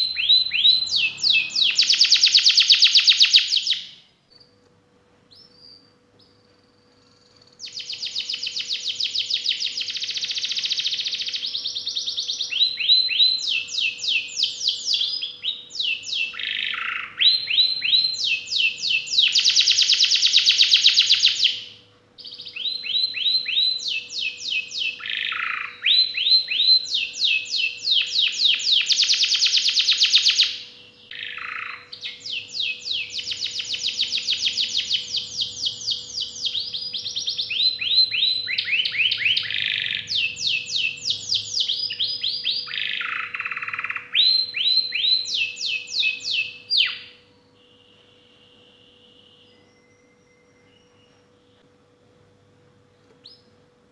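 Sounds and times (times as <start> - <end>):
canary singing trills: 0.0 - 4.6, 5.3 - 51.7.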